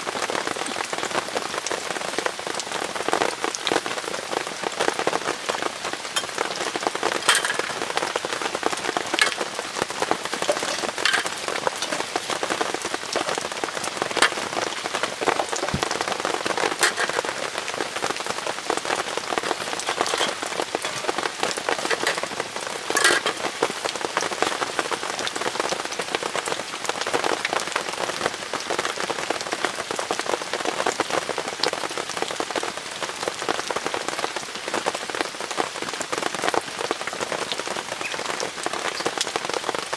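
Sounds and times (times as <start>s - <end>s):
rain on a tent: 0.0s - 39.9s.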